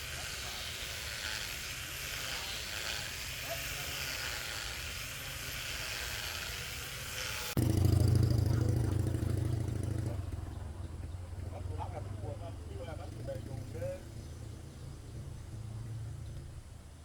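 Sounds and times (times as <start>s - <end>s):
motor humming: 0.0s - 16.8s.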